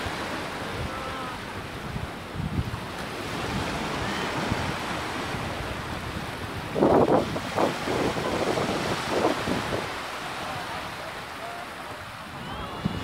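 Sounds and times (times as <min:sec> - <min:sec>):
wind rumbling on microphone: 0:00.0 - 0:11.2, 0:11.8 - 0:13.0
sea surf breaking: 0:00.0 - 0:13.0.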